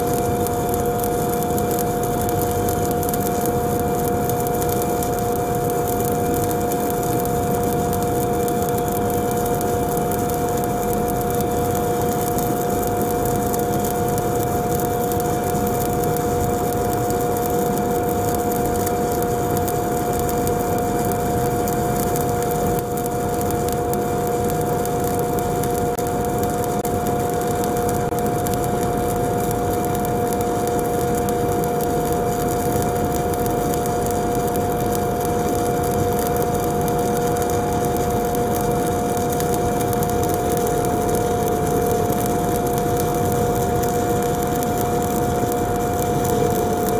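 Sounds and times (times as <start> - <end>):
two-note electrical hum: 0.0 - 46.9
welding arc hissing: 0.0 - 46.9.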